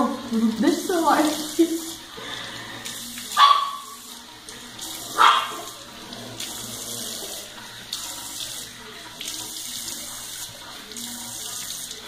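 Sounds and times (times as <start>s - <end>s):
face being rinsed: 0.0s - 12.0s.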